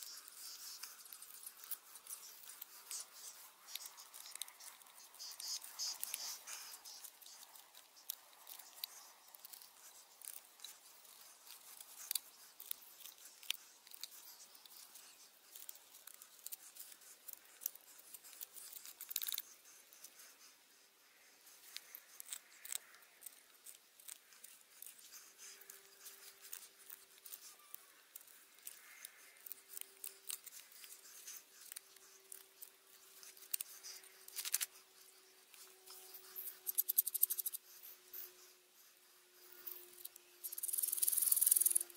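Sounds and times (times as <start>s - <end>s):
knife shaving wood: 0.0s - 41.9s.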